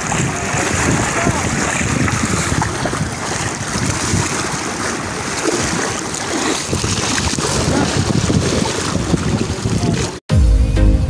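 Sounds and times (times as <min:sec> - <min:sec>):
sea waves splashing on rocks: 0:00.0 - 0:10.2
wind buffeting the microphone: 0:00.0 - 0:10.2.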